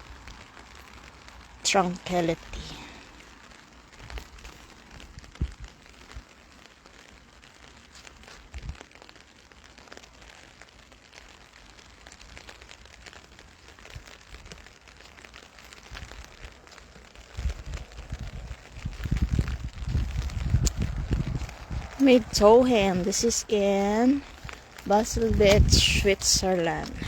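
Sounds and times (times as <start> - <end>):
light rain pattering: 0.0 - 27.0.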